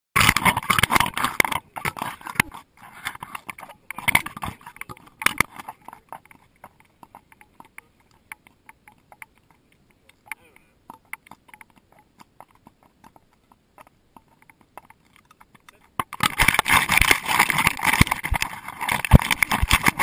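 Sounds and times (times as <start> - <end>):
camera rubbing and knocking: 0.2 - 20.0.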